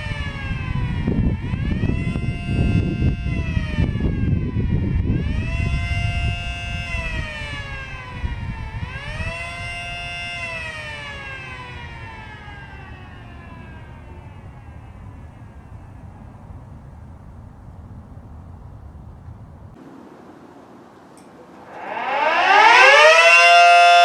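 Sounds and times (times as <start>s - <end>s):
miniature siren wailing: 0.0s - 19.2s, 21.7s - 24.0s.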